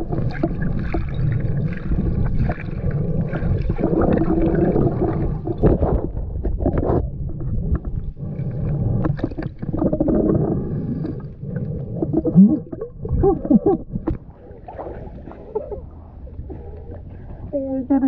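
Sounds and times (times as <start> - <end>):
underwater water rumbling: 0.0 - 18.0.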